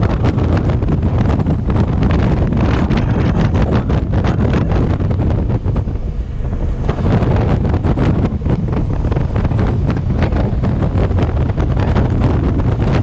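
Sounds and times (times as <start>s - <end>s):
motorcycle engine drone: 0.0s - 13.0s
wind buffeting microphone: 0.0s - 13.0s.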